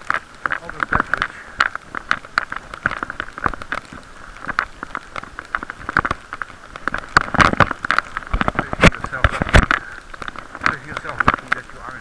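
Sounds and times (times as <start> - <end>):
muffled hiss: 0.0 - 12.0
raindrops tapping on case: 0.0 - 12.0.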